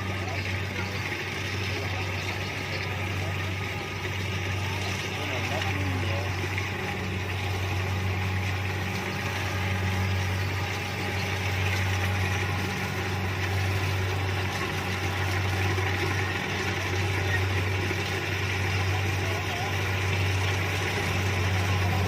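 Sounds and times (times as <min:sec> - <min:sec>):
diesel engine drone: 0:00.0 - 0:22.0
rushing mechanical noise: 0:00.0 - 0:22.0.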